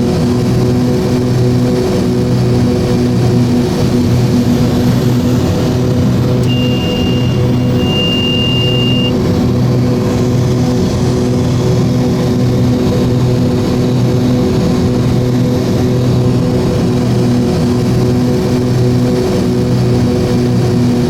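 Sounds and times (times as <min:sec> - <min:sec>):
twin propeller engines droning: 0:00.0 - 0:21.0.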